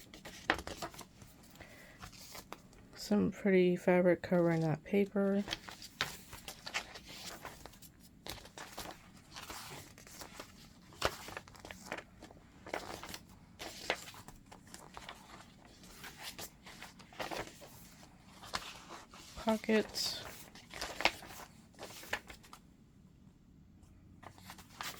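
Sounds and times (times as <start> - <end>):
journal pages turning and rustling: 0.0 - 2.8, 5.3 - 22.6, 24.2 - 24.9.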